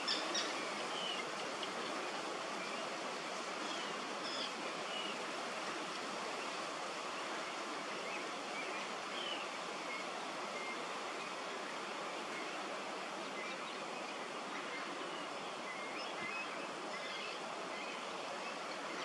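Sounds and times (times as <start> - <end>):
rushing outdoor noise: 0.0 - 19.0.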